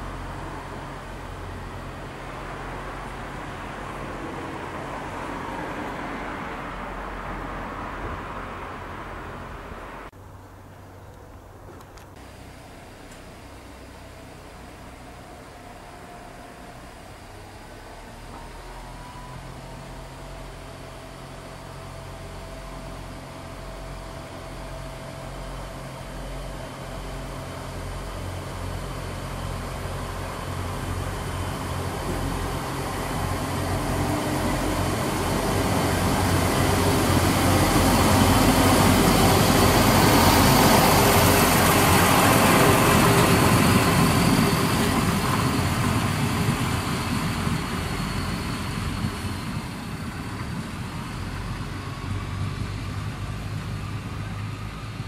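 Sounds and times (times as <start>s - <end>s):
diesel railcar passing: 0.0s - 55.0s.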